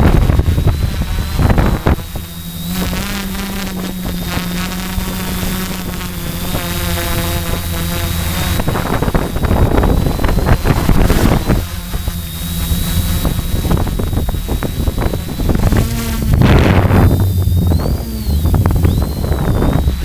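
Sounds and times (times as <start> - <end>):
quadcopter motors humming: 0.0 - 20.0
wind buffeting microphone: 0.0 - 20.0.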